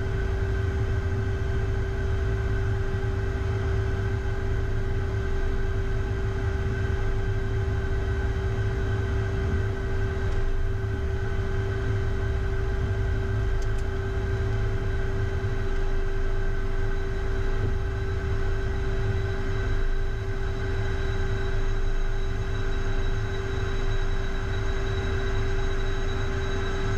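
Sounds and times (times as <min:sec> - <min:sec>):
jet engine rumbling in cockpit: 0:00.0 - 0:26.9.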